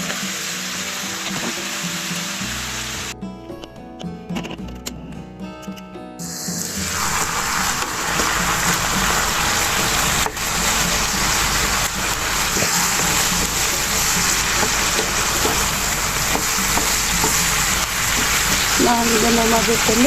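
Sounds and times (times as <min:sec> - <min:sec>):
food sizzling in a frying pan: 0:00.0 - 0:03.1, 0:06.2 - 0:20.0.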